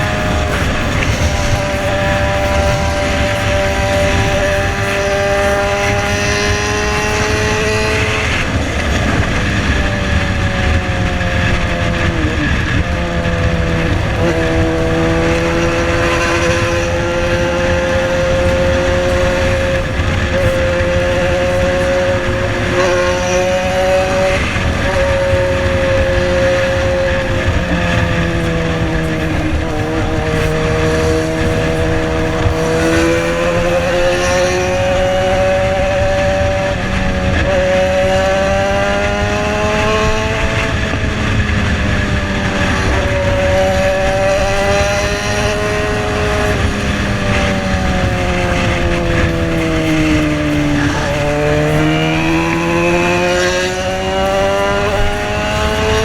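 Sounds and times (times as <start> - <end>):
motorcycle engine revving: 0.0 - 56.0
steady rush of noise: 0.0 - 56.0.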